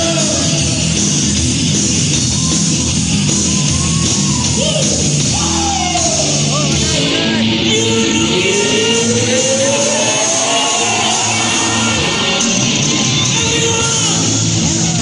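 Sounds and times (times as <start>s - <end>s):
rock and roll band playing live: 0.0s - 15.0s.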